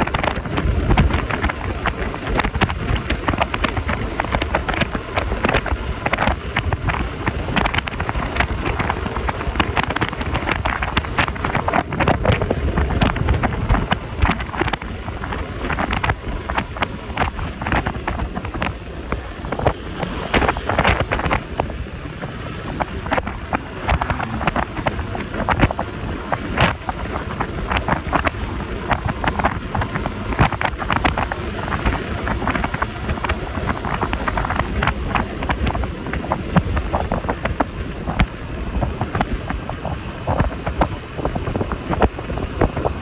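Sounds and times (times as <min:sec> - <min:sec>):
scooter engine and road noise: 0:00.0 - 0:43.0
wind buffeting microphone: 0:00.0 - 0:43.0.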